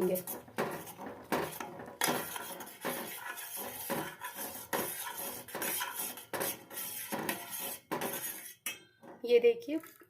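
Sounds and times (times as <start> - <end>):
spoon scraping cooking pot: 0.0 - 9.1.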